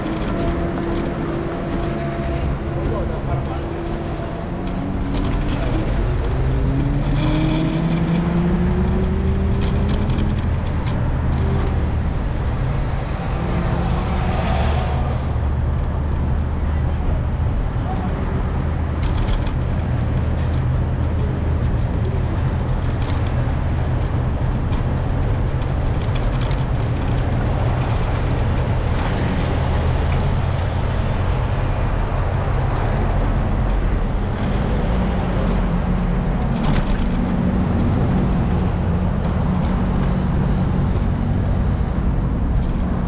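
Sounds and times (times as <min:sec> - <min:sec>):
wind and road noise rumble: 0:00.0 - 0:43.0.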